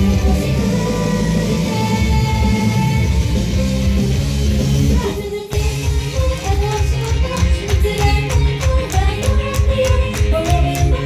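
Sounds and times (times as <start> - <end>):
loud rock music with guitar: 0.0 - 11.0.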